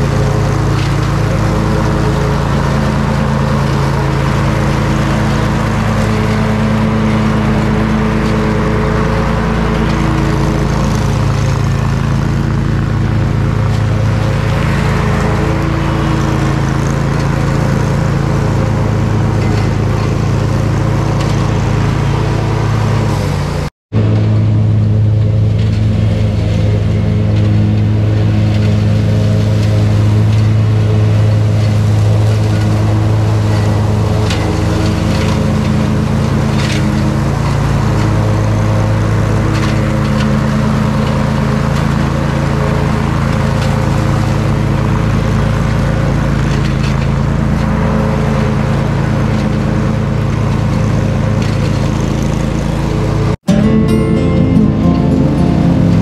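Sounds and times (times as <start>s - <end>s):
mower engine running: 0.0s - 53.6s.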